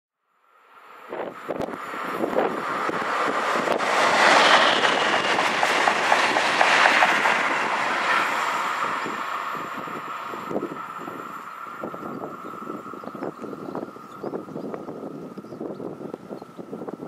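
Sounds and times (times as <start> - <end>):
train passing at speed: 0.4 - 17.0.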